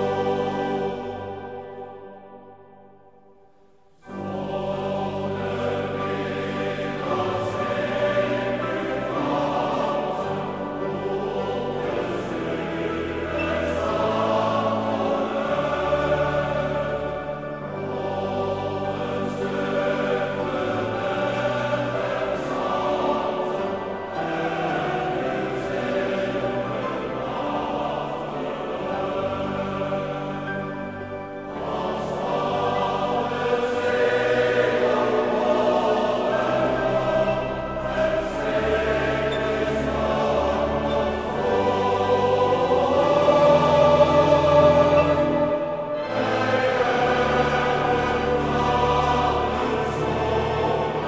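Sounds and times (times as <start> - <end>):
male voice choir singing: 0.0 - 2.0, 4.0 - 51.0.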